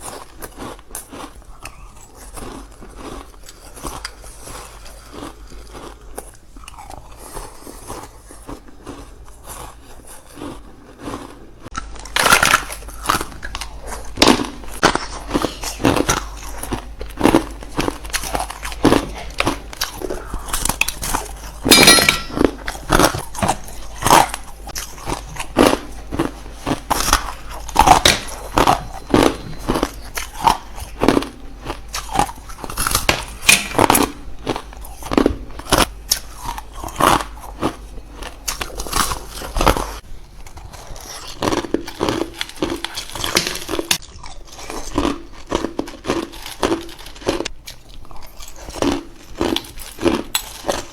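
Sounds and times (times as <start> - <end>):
person crunching ice cubes: 0.0 - 50.9.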